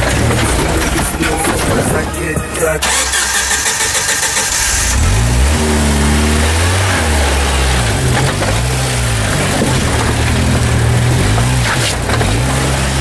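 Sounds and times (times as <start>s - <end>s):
engine revving: 0.0s - 13.0s.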